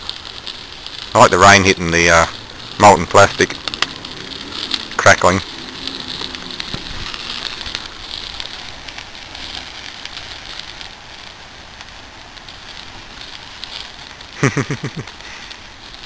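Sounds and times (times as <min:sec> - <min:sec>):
fire hissing and crackling: 0:00.0 - 0:16.0
rain falling: 0:00.0 - 0:16.0.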